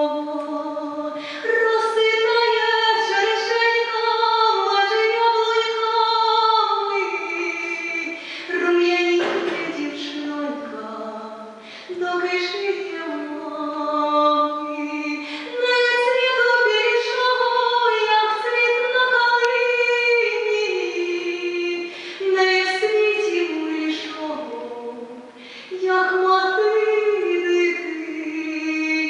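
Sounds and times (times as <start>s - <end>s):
woman singing a cappella: 0.0s - 29.0s.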